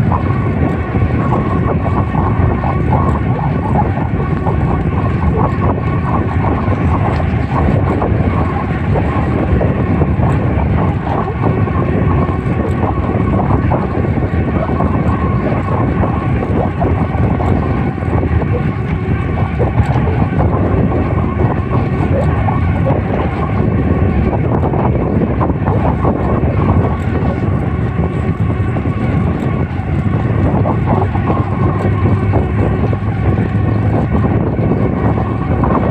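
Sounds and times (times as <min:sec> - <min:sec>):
bike tyres humming: 0:00.0 - 0:35.9
wind on microphone: 0:00.0 - 0:35.9.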